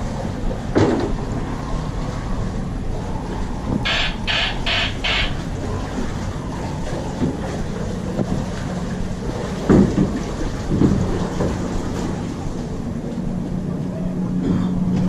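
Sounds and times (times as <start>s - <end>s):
boat ride rumble and hum: 0.0s - 15.0s.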